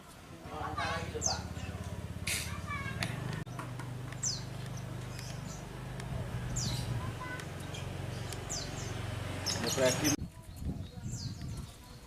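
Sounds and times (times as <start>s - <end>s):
lovebirds chirping shrilly: 0.7s - 12.0s.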